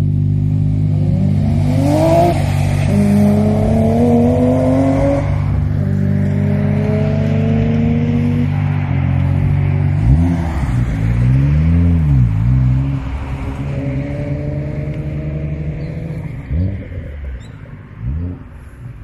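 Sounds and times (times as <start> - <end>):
engine throttle blips and revs: 0.0 - 19.0.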